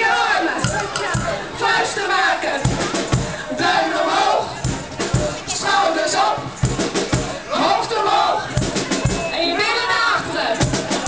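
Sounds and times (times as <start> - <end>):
crowd singing and shouting: 0.0 - 11.0
party music with bass beat: 0.0 - 11.0.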